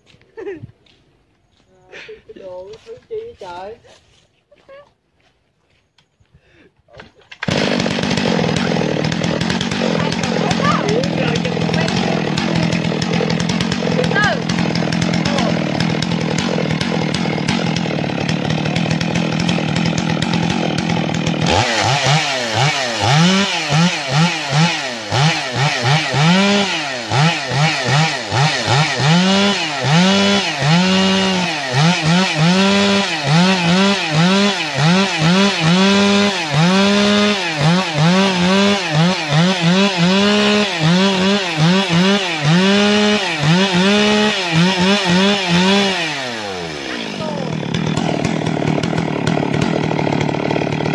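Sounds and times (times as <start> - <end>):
chainsaw cutting wood: 7.1 - 50.9.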